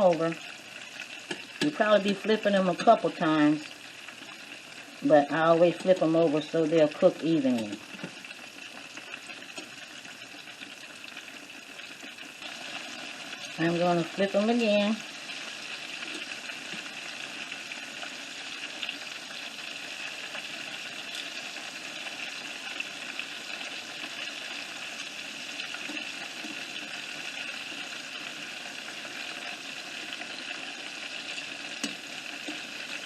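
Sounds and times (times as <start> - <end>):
food deep-frying in hot oil: 0.0 - 33.0.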